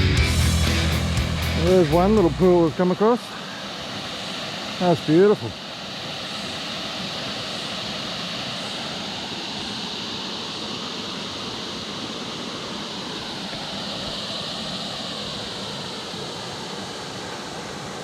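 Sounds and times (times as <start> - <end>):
creek water running into pool: 0.9 - 18.0.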